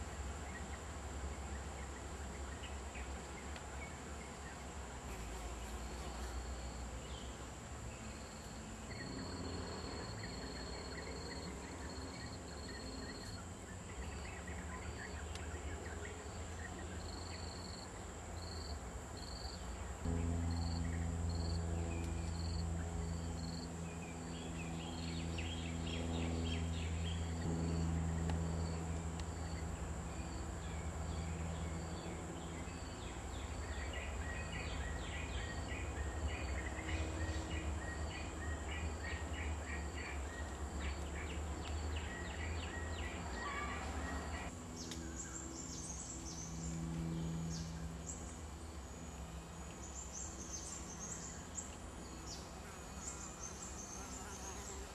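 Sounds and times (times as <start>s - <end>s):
low hum: 0.0s - 53.9s.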